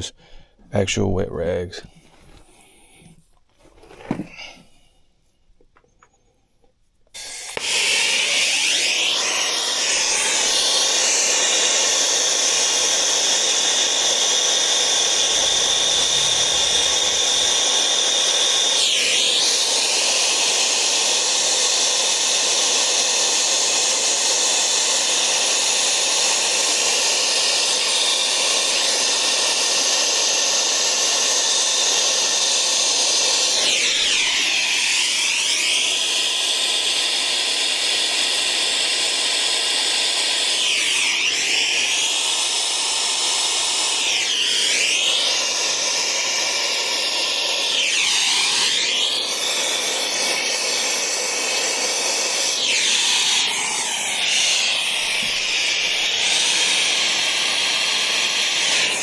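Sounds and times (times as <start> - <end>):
torch burning with loud hiss: 7.0 - 59.0.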